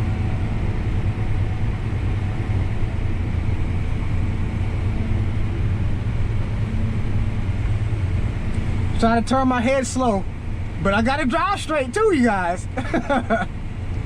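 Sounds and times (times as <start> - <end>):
road and machinery noise: 0.0 - 14.0
tractor engine running: 0.0 - 14.0.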